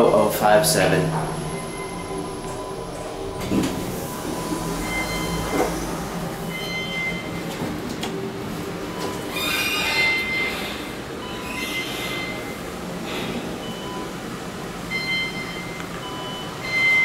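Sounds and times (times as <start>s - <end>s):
elevator low hum: 0.0s - 17.0s
high squealing whine: 0.0s - 17.0s.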